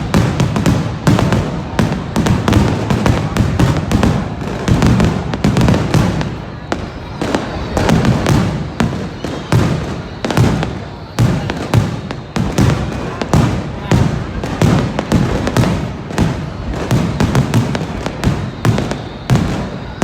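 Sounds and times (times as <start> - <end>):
deep fireworks booms: 0.0 - 20.0
fireworks cracks and bangs: 0.0 - 20.0.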